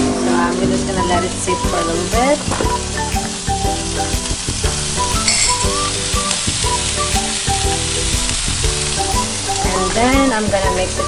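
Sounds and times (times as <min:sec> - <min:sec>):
background music with steady beat: 0:00.0 - 0:11.0
chicken sizzling in a frying pan: 0:01.4 - 0:11.0.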